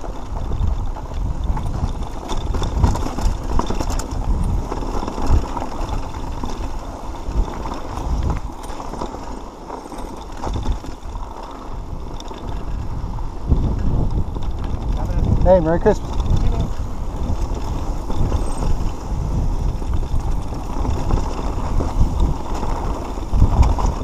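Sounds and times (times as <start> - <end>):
wind on microphone: 0.0 - 9.3, 10.0 - 24.0
bike rattling and knocking: 0.0 - 24.0
tyres on loose dirt and stones: 0.0 - 24.0.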